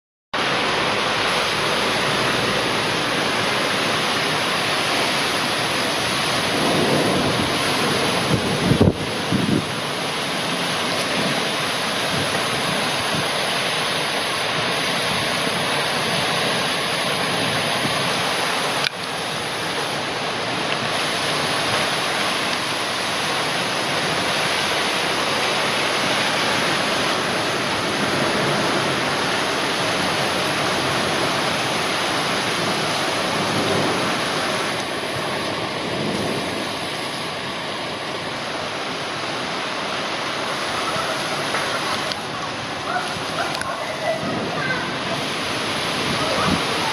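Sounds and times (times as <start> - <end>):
heavy rain pouring: 0.4 - 46.9.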